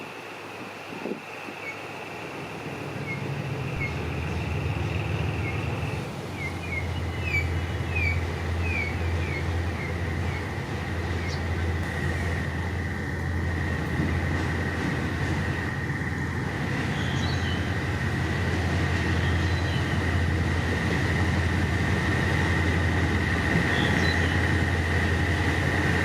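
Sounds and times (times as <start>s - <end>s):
diesel locomotive engine drone: 0.0s - 26.0s
steady high squeal: 1.6s - 26.0s.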